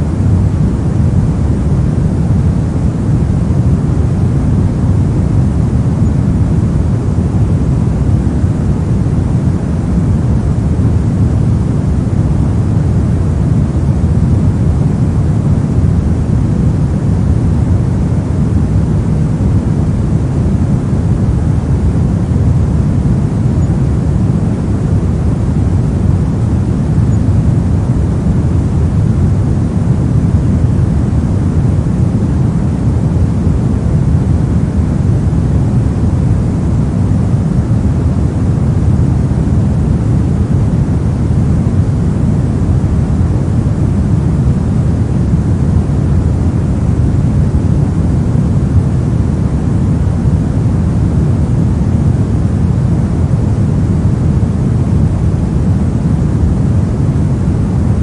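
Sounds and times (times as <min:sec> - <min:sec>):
steady pink noise: 0:00.0 - 0:58.0.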